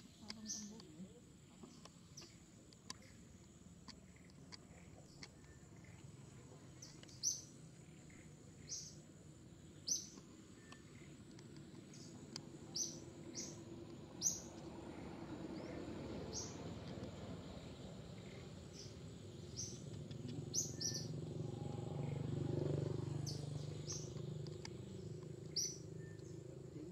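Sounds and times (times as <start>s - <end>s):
bird chirping: 0.0s - 26.9s.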